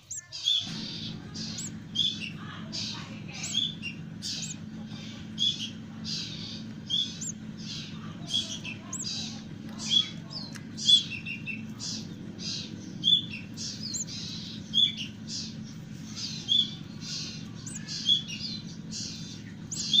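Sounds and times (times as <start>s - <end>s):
low hum: 0.0s - 20.0s
young birds chirping: 0.0s - 20.0s.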